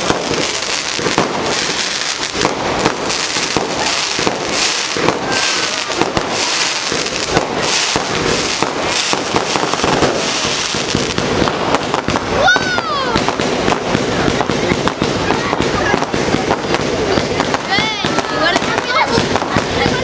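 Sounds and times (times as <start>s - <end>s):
fireworks hissing: 0.0s - 20.0s
fireworks popping and crackling: 0.0s - 20.0s.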